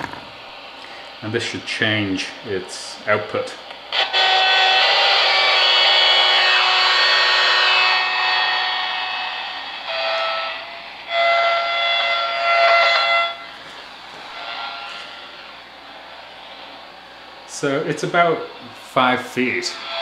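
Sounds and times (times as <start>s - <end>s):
radio interference buzz with whining tones: 1.3s - 20.0s.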